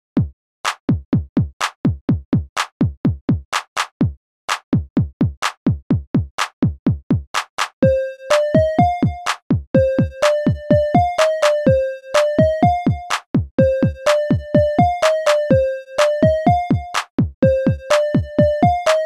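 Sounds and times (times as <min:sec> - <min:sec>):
drum machine beat: 0:00.2 - 0:19.0.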